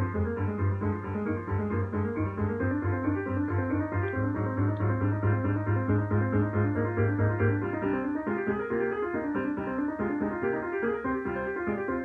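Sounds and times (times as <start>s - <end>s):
piano playing: 0.0s - 12.0s.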